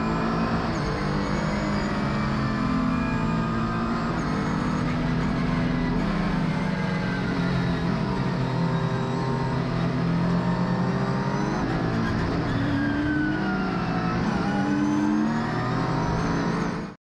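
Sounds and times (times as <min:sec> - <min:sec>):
racing car engine at speed: 0:00.0 - 0:17.0.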